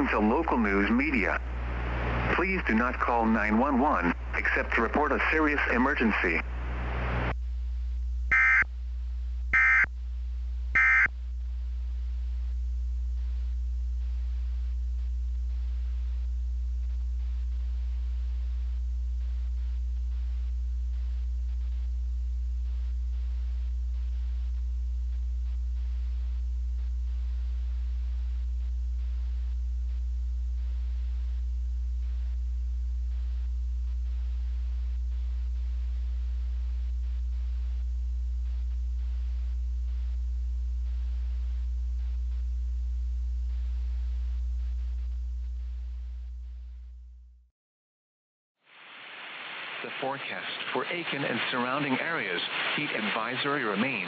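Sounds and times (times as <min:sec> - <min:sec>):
steady low hum: 0:00.0 - 0:47.4.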